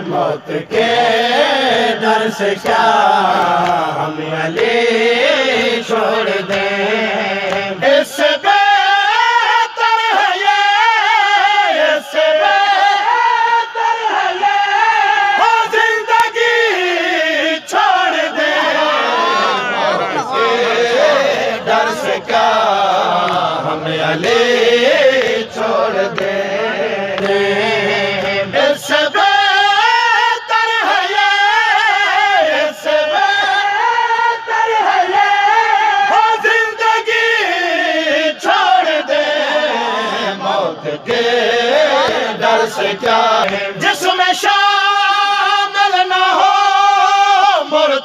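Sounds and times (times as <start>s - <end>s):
men chanting a lament: 0.0s - 48.0s.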